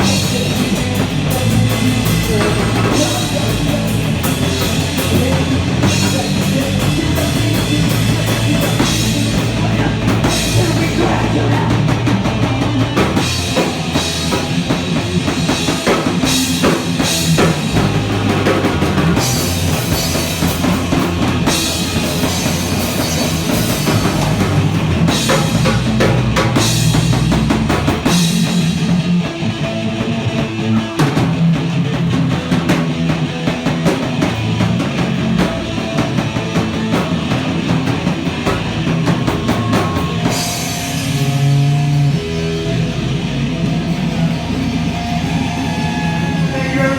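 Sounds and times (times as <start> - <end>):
drum kit: 0.0 - 46.9
rock band playing live: 0.0 - 46.9.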